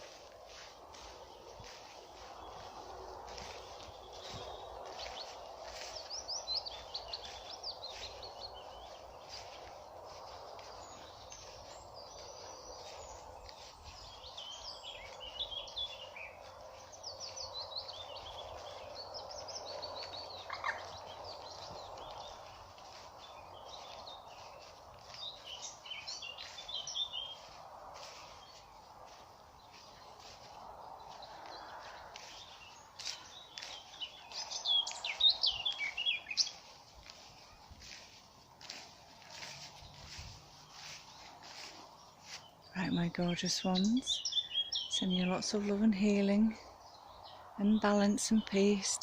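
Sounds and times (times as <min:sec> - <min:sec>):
wild birds chirping: 0:00.0 - 0:49.0.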